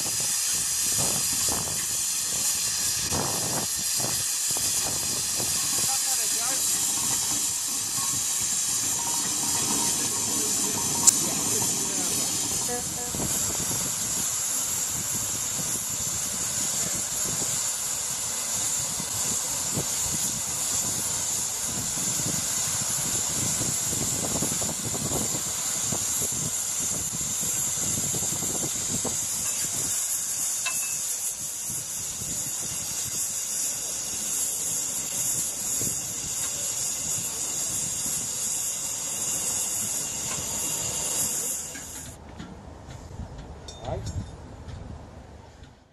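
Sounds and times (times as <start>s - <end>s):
steam hissing: 0.0s - 42.2s.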